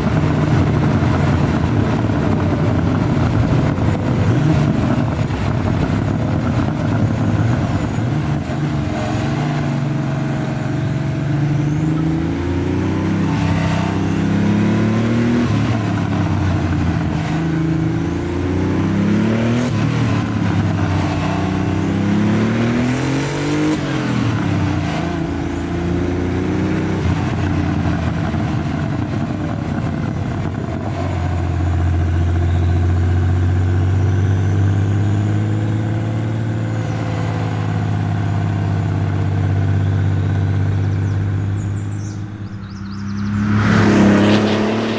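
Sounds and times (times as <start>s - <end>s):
car engine accelerating through gears: 0.0s - 44.9s.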